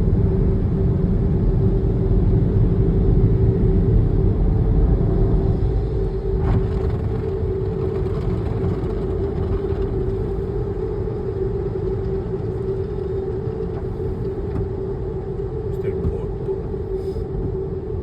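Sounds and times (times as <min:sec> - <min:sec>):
machine humming and rumbling: 0:00.0 - 0:18.0.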